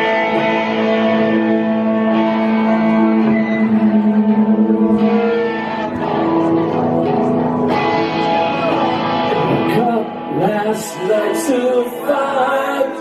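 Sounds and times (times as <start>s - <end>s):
electric guitar chords: 0.0s - 13.0s
live rock band playing: 0.0s - 13.0s.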